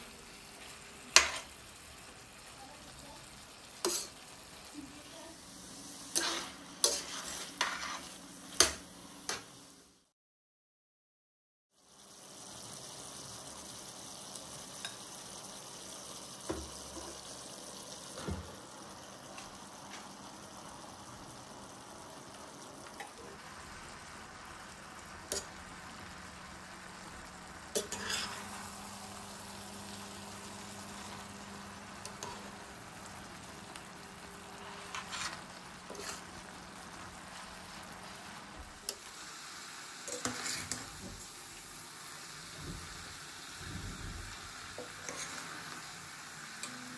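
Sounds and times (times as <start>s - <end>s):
food frying in a pot: 0.0s - 10.1s, 11.7s - 46.9s.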